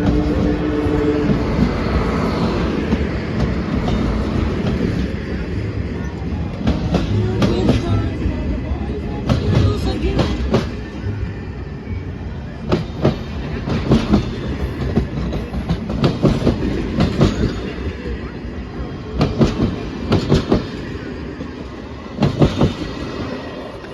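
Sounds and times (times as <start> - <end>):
train wheels clacking over rail joints: 0.0 - 8.4, 9.2 - 10.9, 12.6 - 23.9
train low rumble: 0.0 - 23.9.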